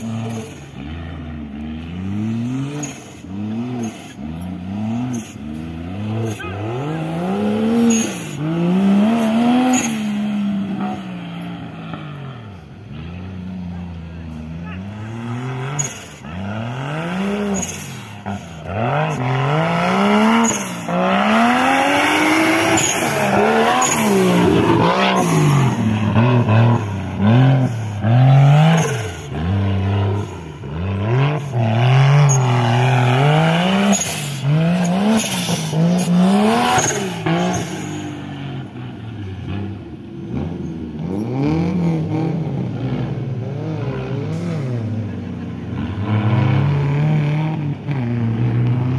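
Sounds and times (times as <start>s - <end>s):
buggy engine revving: 0.0s - 48.9s.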